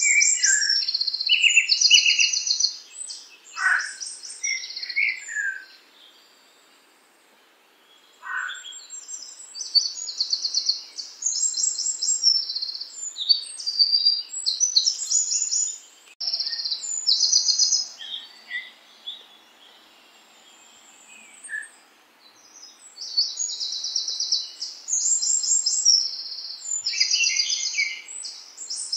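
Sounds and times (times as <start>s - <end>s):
songbirds trilling: 0.0s - 28.9s.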